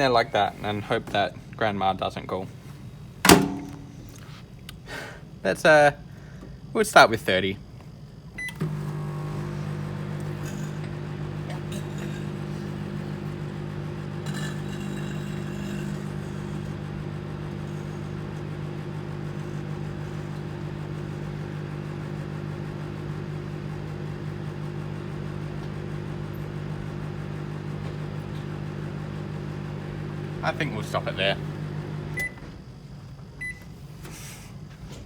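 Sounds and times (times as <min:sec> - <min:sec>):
microwave oven humming: 0:02.6 - 0:04.3, 0:07.3 - 0:33.8.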